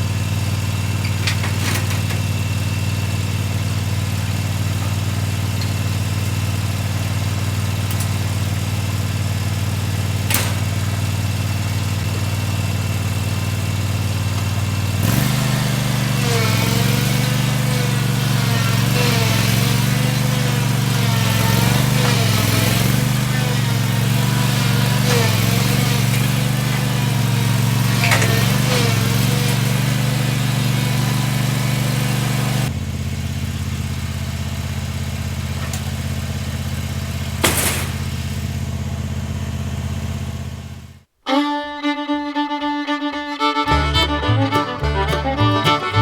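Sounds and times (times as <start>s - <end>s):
excavator engine running: 0.0s - 46.0s.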